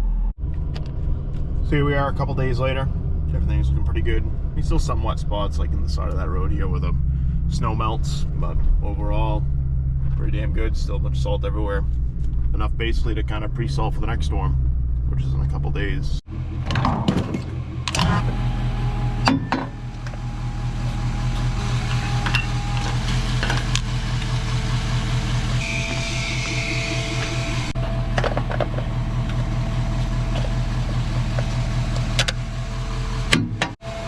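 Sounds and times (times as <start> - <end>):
truck engine running: 0.4 - 34.0.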